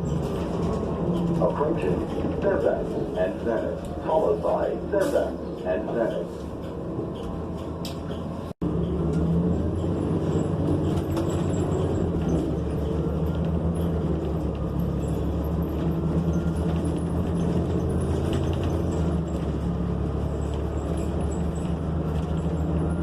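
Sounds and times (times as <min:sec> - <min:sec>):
bus engine humming: 0:00.0 - 0:23.0
road noise: 0:00.0 - 0:23.0.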